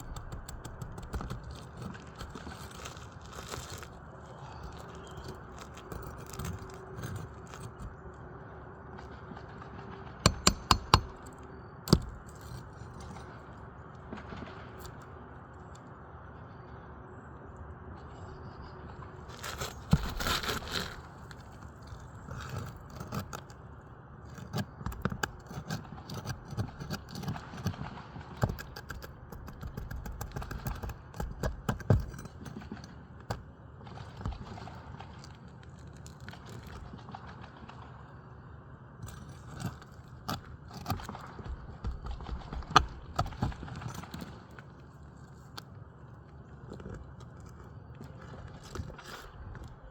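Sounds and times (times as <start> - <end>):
tool scraping on shingles: 0.0 - 8.1, 10.2 - 15.1, 19.2 - 37.9, 39.0 - 49.9.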